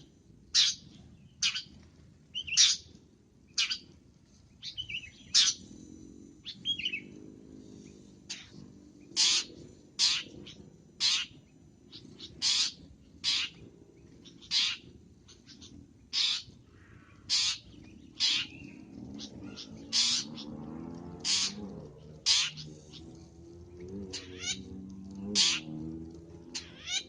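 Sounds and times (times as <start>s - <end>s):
bird harsh rasping calls: 0.5s - 1.7s, 2.4s - 2.9s, 3.6s - 3.9s, 4.6s - 5.7s, 6.4s - 7.2s, 8.3s - 27.0s.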